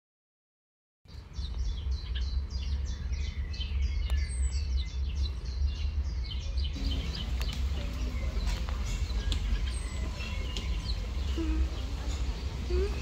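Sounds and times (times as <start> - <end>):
birds chirping: 1.1 - 13.0
steady low rumble: 1.1 - 13.0.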